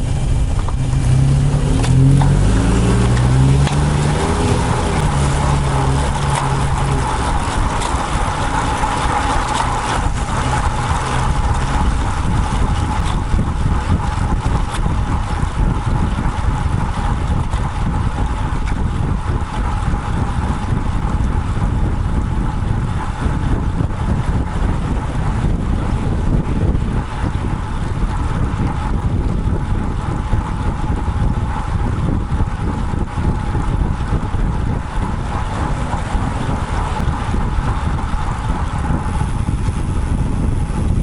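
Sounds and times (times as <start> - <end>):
motor vehicle engine: 0.0 - 41.0
road traffic: 0.0 - 41.0
wind buffeting microphone: 0.0 - 41.0.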